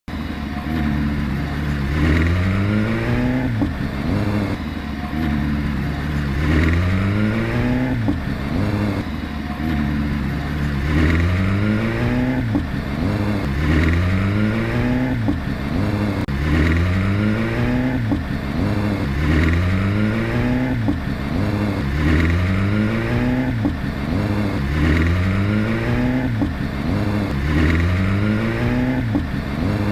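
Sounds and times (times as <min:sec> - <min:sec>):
car engine surging: 0:00.0 - 0:29.9.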